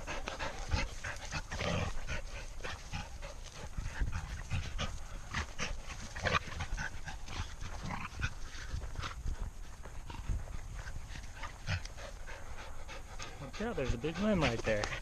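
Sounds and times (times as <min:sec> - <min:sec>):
crackles and rustles: 0:00.0 - 0:15.0
dog panting: 0:00.0 - 0:15.0.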